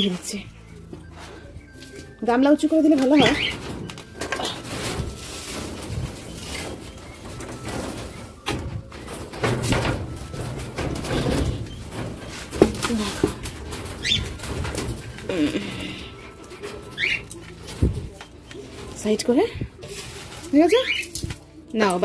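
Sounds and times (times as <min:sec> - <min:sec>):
doves cooing: 0:00.4 - 0:21.2.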